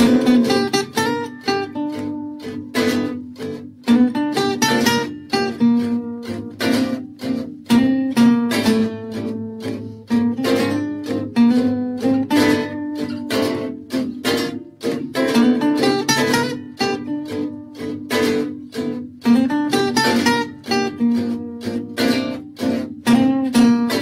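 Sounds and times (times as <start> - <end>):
strummed acoustic guitar: 0.0 - 24.0.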